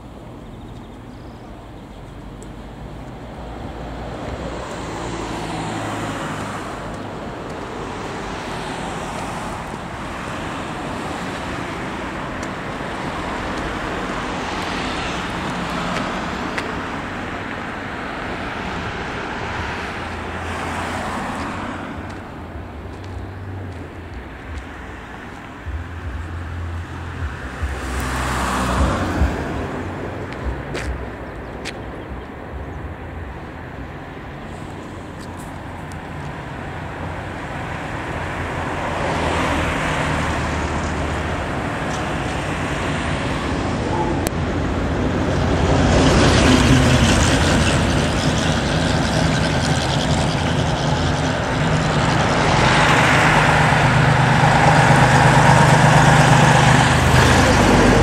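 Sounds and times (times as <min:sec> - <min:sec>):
vehicles passing by: 0:00.0 - 0:58.0.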